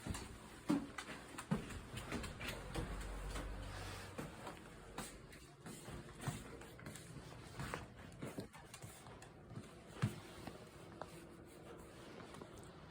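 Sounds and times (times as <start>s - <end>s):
dog paws tapping on floor: 0.0s - 11.2s.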